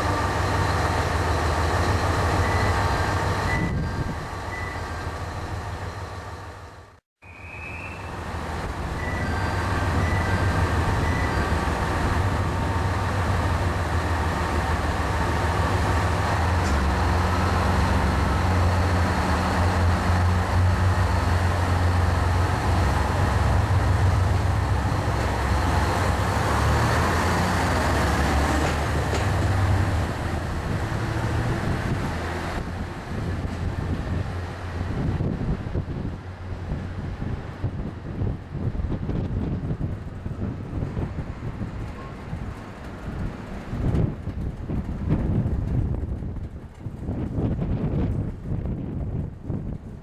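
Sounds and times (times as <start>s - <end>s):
wind noise: 0.0s - 6.0s, 7.4s - 50.0s
diesel railcar engines droning: 0.0s - 50.0s.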